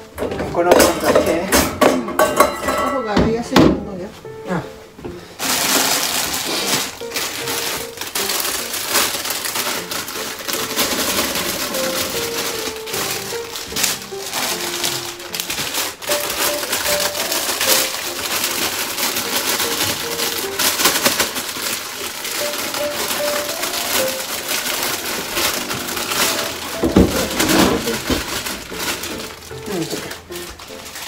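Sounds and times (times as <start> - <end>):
faint background music: 0.0 - 31.0
lettuce leaves crinkling: 5.4 - 31.0.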